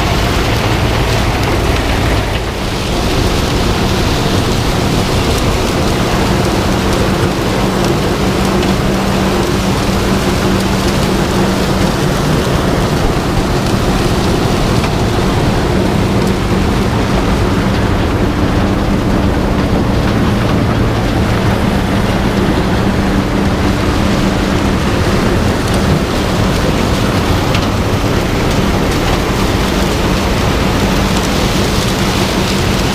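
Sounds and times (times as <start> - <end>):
harvest machine rumbling: 0.0 - 32.9.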